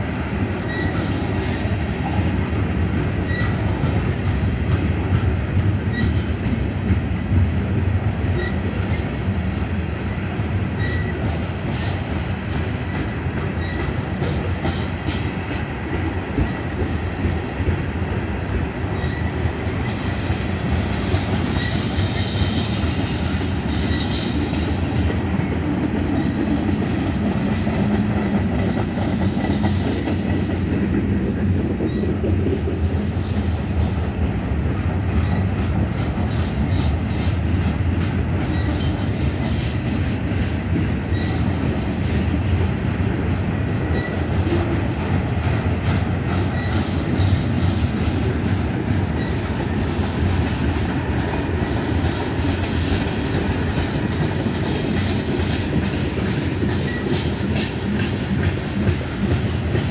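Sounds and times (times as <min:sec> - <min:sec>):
freight train cars rolling past: 0:00.0 - 0:59.9.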